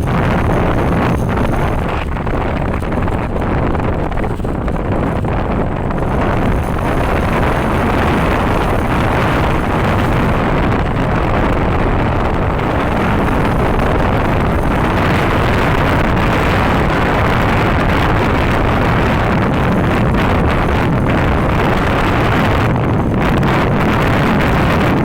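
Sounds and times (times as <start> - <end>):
loud vehicle noise: 0.0 - 23.6
wind buffeting microphone: 0.0 - 25.0.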